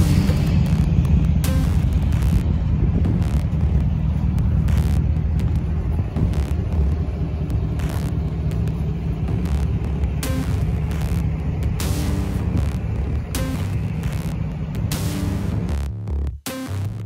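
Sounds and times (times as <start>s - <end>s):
pickup truck engine at low revs: 0.0s - 16.4s.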